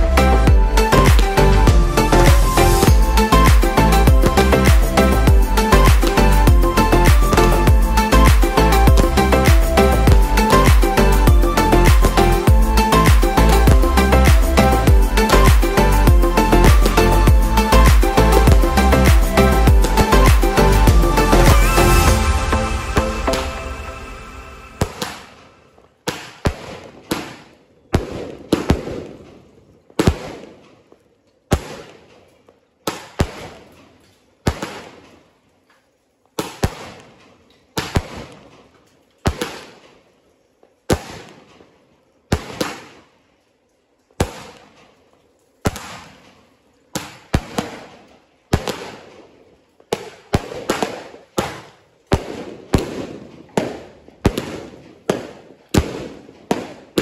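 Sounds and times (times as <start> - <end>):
fireworks bangs: 0.0 - 35.3, 36.4 - 40.0, 40.9 - 43.1, 44.2 - 45.0, 45.6 - 57.0.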